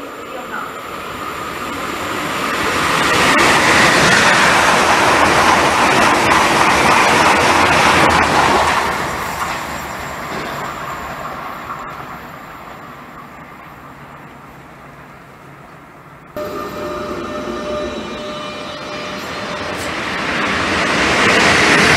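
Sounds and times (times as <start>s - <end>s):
train wheels rushing on rails: 0.0s - 21.9s.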